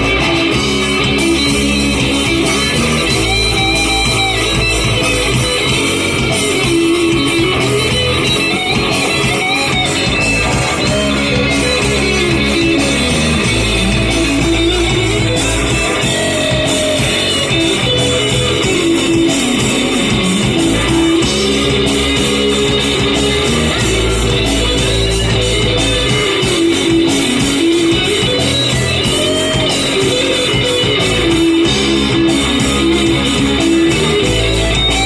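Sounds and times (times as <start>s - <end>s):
bass guitar: 0.0s - 35.0s
electric guitar: 0.0s - 35.0s.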